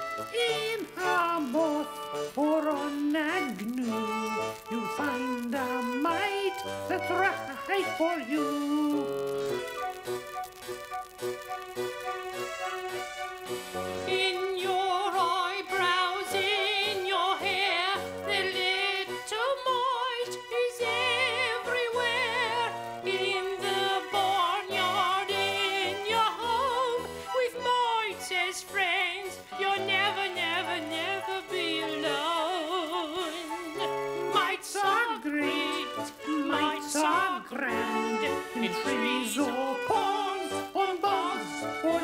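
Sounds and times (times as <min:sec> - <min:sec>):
operatic singing: 0:00.0 - 0:10.2, 0:11.8 - 0:42.0
instrumental accompaniment: 0:00.0 - 0:42.0.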